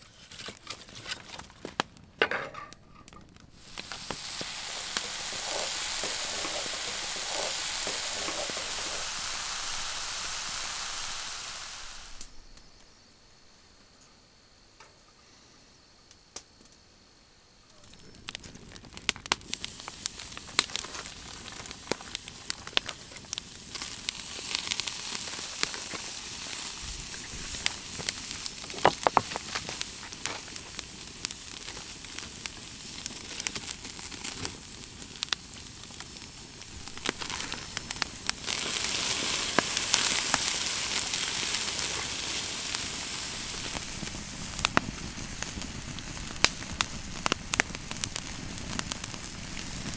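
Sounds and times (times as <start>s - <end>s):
campfire crackling: 0.0s - 13.1s, 17.6s - 49.9s
steaks sizzling on a grill: 3.5s - 12.4s, 18.0s - 49.9s.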